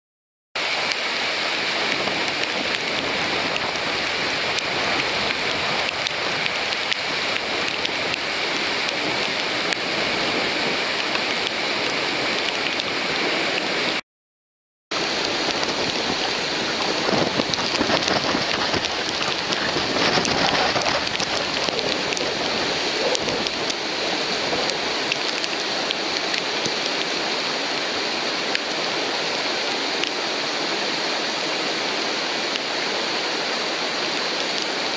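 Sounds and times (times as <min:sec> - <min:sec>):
river whitewater roaring: 0:00.6 - 0:14.0, 0:15.0 - 0:34.9.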